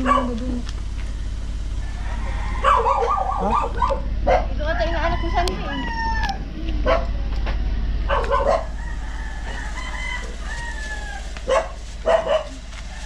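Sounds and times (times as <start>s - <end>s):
steady low hum: 0.0s - 13.0s
rooster crowing: 1.8s - 7.0s, 7.6s - 13.0s.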